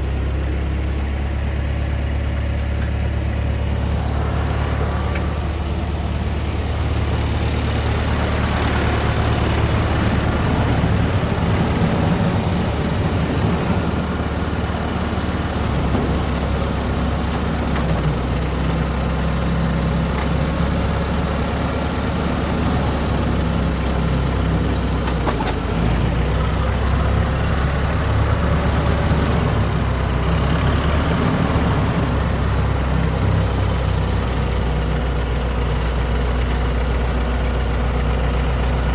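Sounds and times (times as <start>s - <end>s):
farm machine engine humming: 0.0s - 38.9s.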